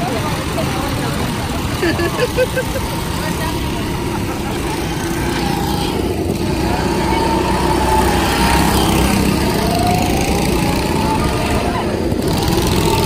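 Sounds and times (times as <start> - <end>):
go-kart engines running: 0.0 - 13.0.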